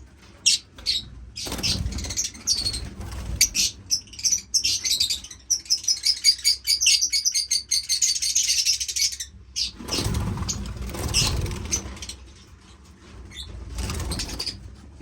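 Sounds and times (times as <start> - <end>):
young birds chirping rapidly: 0.3 - 12.4, 13.2 - 14.7.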